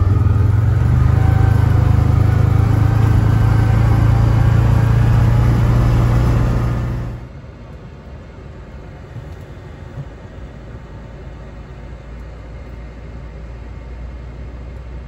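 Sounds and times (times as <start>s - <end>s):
side-by-side engine rumbling: 0.0s - 15.0s.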